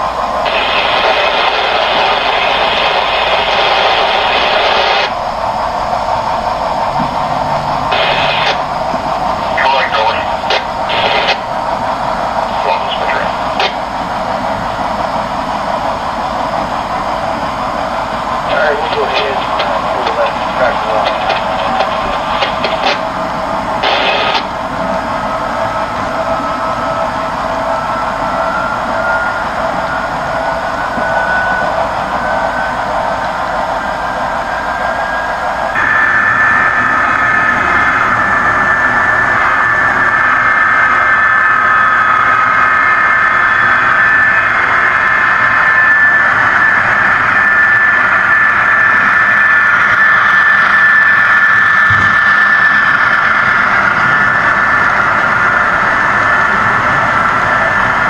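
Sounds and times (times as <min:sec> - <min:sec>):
model train drone with high whine: 0:00.0 - 0:58.0.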